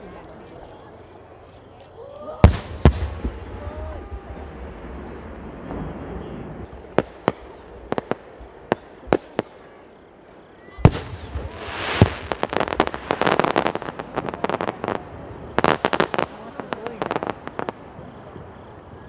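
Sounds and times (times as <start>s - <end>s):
fireworks reports: 0.0s - 19.0s
loud fireworks boom: 2.4s - 9.8s, 10.6s - 19.0s.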